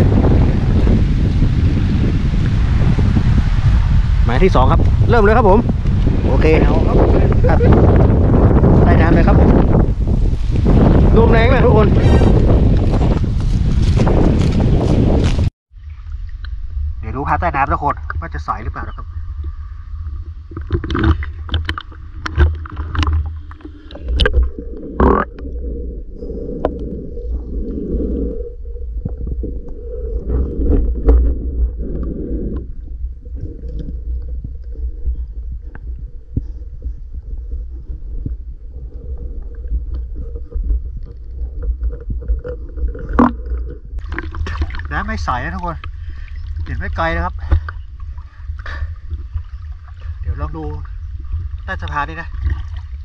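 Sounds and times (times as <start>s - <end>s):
muffled underwater water rumble: 0.0s - 53.0s.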